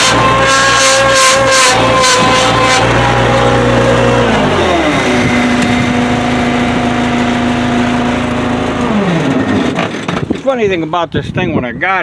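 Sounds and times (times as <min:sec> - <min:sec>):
skid steer engine running: 0:00.0 - 0:11.1.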